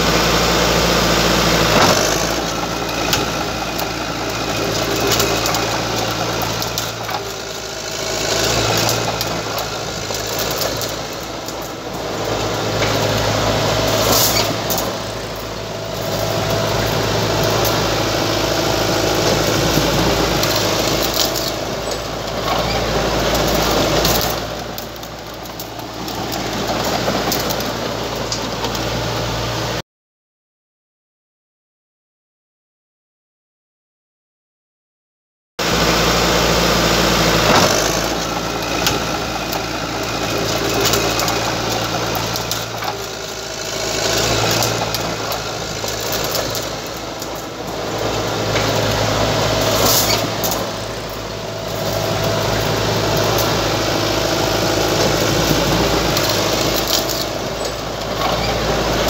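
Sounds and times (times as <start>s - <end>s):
dozer diesel engine running: 0.0s - 29.8s, 35.6s - 59.0s.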